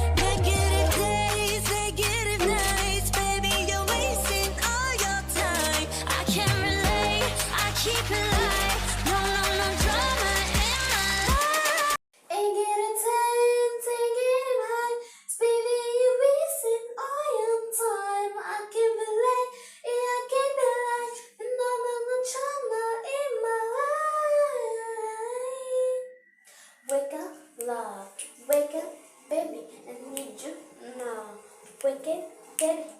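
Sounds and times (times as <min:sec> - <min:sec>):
girl singing unaccompanied: 0:00.0 - 0:26.1, 0:26.8 - 0:32.9.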